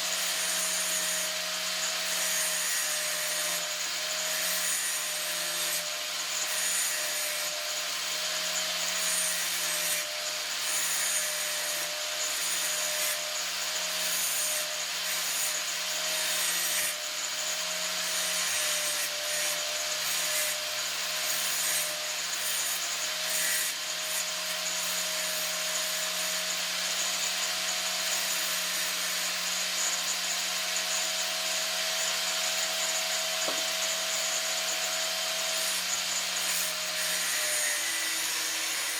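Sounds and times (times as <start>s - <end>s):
power tool grinding metal: 0.0s - 38.9s.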